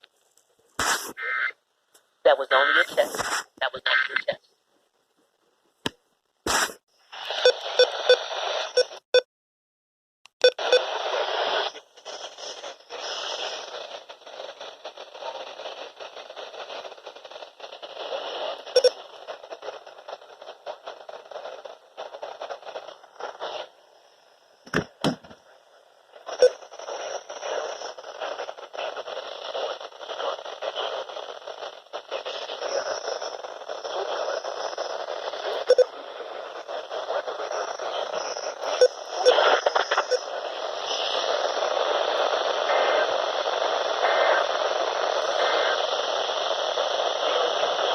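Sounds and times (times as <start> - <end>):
radio static hiss: 0.0 - 9.2, 10.4 - 47.9.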